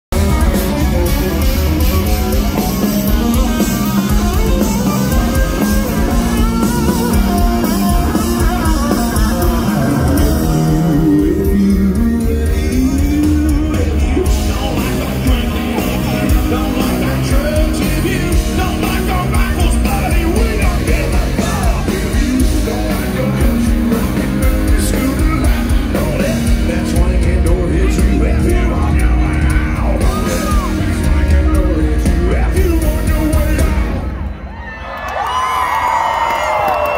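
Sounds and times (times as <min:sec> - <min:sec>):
drums: 0:00.0 - 0:36.9
electric guitars: 0:00.1 - 0:36.9
rock band playing live: 0:00.1 - 0:36.9
lead singer singing: 0:00.2 - 0:34.2.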